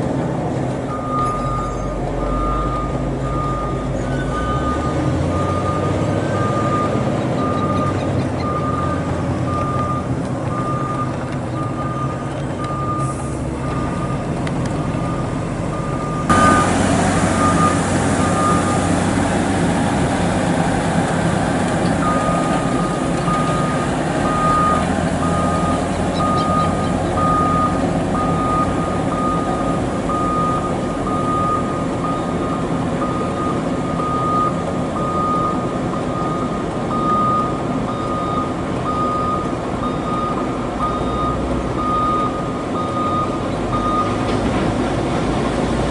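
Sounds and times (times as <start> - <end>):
diesel dump trucks running: 0.0 - 45.9
truck warning beeper: 0.9 - 14.3, 14.9 - 20.2, 21.4 - 44.2.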